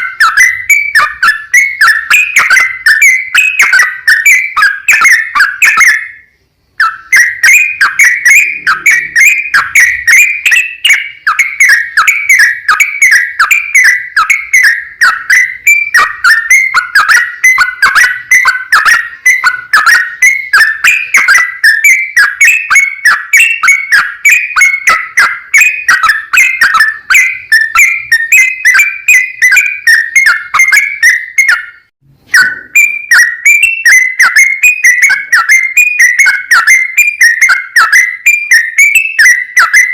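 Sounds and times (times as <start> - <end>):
bird singing chirping whistled notes: 0.0 - 39.9.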